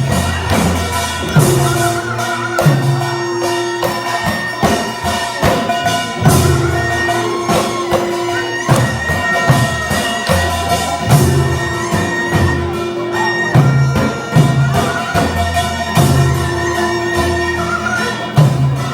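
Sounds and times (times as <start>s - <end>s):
percussion beat: 0.0s - 18.9s
reedy wind instrument: 0.0s - 18.9s.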